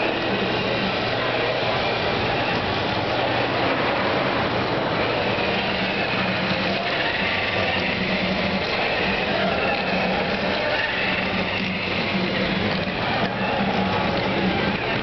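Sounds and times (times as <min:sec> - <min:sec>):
crowd din in a hall: 0:00.0 - 0:15.0.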